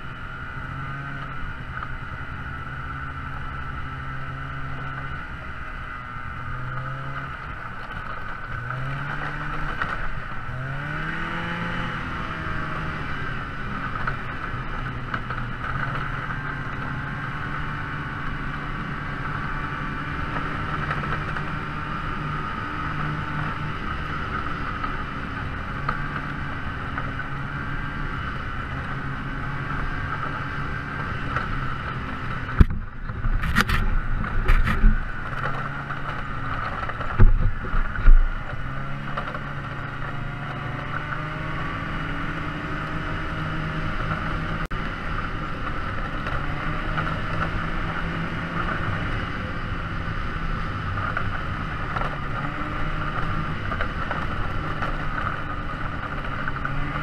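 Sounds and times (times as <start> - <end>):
engine drone: 0.0 - 57.0.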